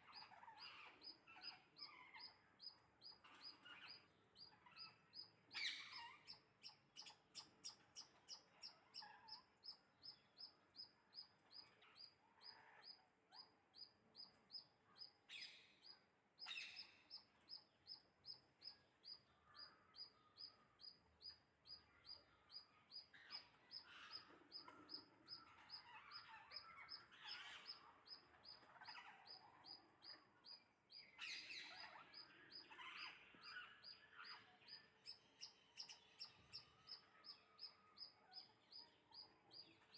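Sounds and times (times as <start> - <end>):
faint bird chirping: 0.0 - 39.9
soft lower bird chirps: 0.0 - 39.9.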